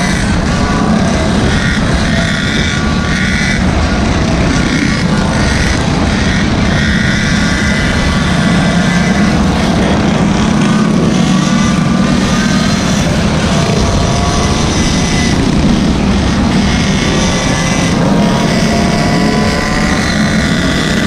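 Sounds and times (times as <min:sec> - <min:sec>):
small gas engines droning: 0:00.0 - 0:21.0.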